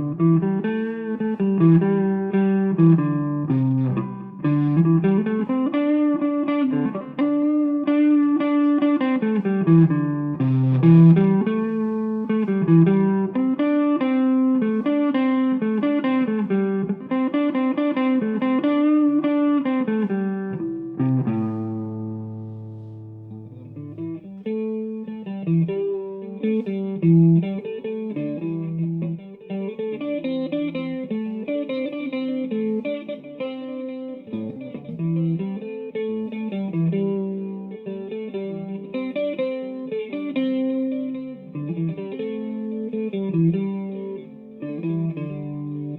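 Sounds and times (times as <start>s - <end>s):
electric guitar playing: 0.0s - 45.9s.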